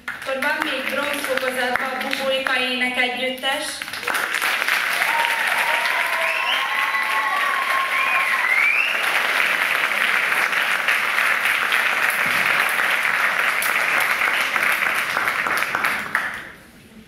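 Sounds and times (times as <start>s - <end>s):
audience applauding: 0.0s - 2.5s, 3.8s - 16.7s.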